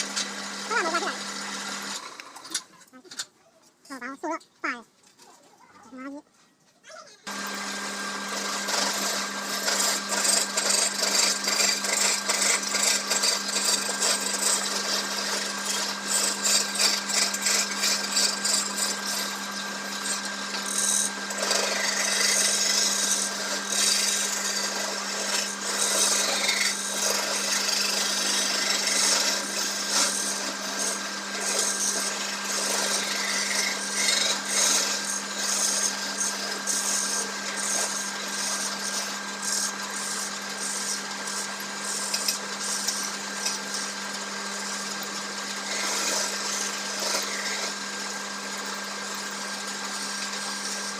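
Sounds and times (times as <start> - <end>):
lathe motor hum: 0.0 - 2.7, 7.3 - 50.9
tool scraping spinning wood: 0.0 - 3.3, 7.2 - 50.9.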